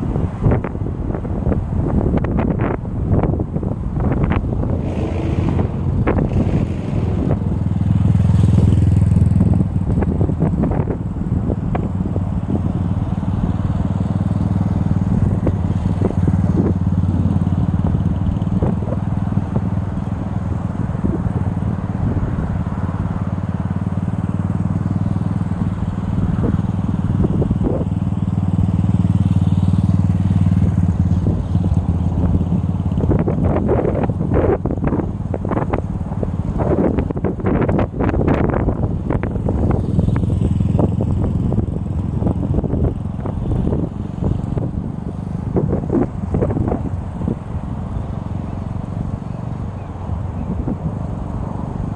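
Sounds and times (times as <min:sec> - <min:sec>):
motorcycle engine running: 0:00.0 - 0:51.9
wind buffeting microphone: 0:00.0 - 0:51.9.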